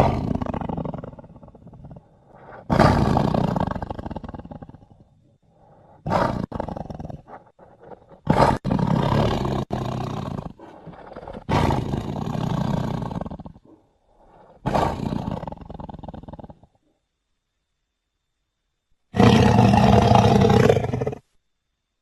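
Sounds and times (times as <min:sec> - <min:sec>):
big cat roaring: 0:00.0 - 0:16.7, 0:19.2 - 0:21.2.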